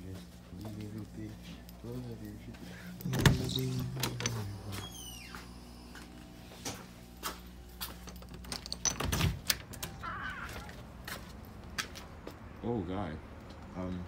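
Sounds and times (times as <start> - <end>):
footsteps and door handling clicks: 0.4 - 12.4.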